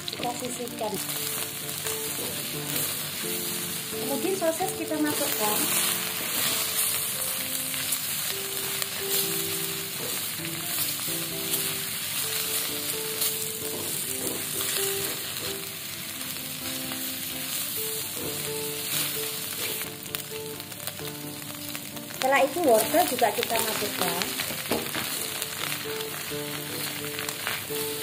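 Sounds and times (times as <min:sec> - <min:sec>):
sausage sizzling in hot oil: 0:00.0 - 0:28.0
soft background music: 0:00.0 - 0:28.0.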